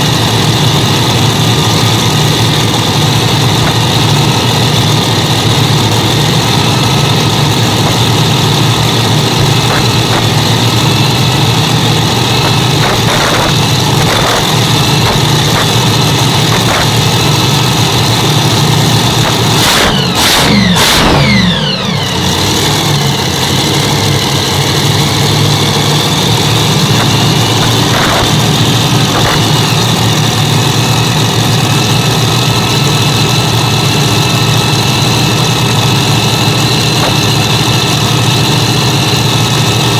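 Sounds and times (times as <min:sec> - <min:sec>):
engine revving: 0:00.0 - 0:39.9
engines running near idle: 0:00.0 - 0:39.9.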